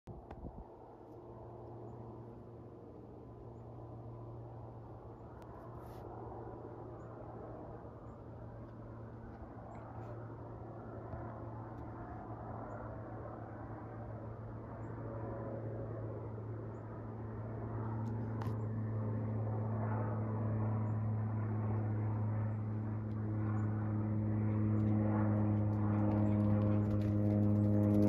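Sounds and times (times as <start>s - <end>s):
airliner engines droning overhead: 0.1s - 28.0s.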